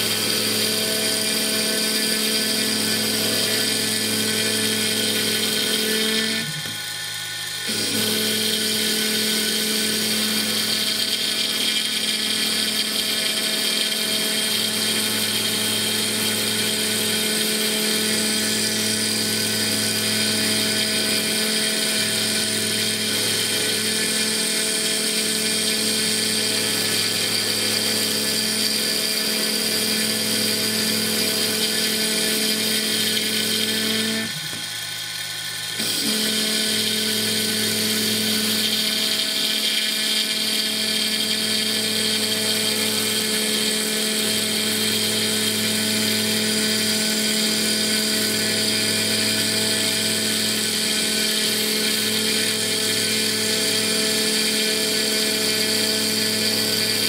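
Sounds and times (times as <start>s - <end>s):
mill spindle whining: 0.0s - 57.0s.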